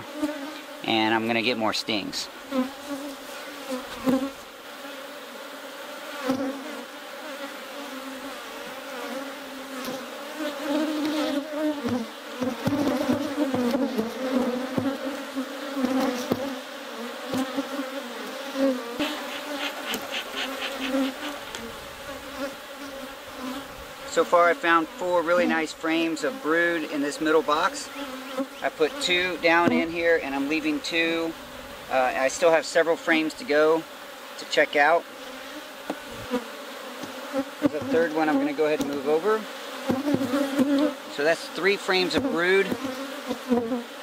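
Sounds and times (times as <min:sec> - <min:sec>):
bees buzzing: 0:00.0 - 0:44.0.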